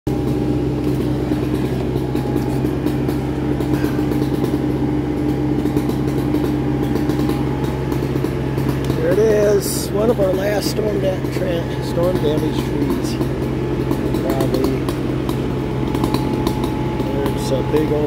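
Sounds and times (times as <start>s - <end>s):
truck engine droning: 0.0s - 18.0s
thin steady whine: 0.1s - 18.0s.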